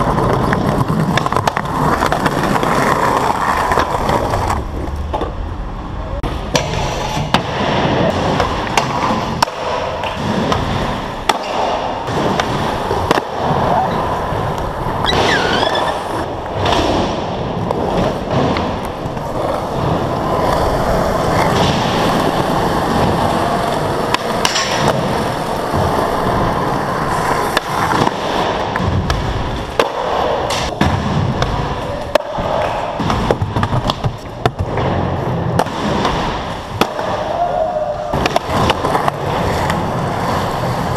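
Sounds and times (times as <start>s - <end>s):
skateboard clacks: 0.0s - 5.5s, 6.3s - 40.9s
skateboard wheels rolling on concrete: 0.0s - 40.9s.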